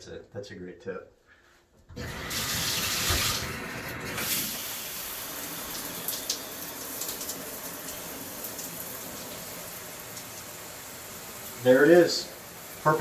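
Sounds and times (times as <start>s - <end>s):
shower head spraying water: 2.0s - 13.0s.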